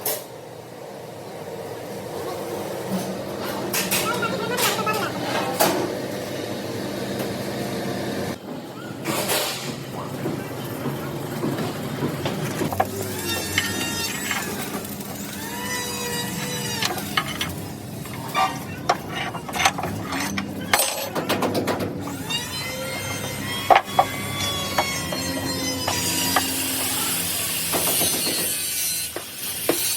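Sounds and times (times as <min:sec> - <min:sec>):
steady noisy background: 0:00.0 - 0:29.8.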